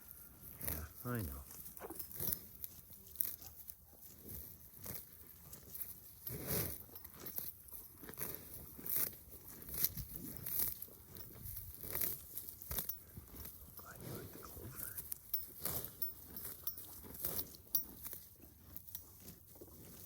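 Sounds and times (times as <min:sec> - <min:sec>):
cows tearing grass and chewing: 0:00.0 - 0:20.0.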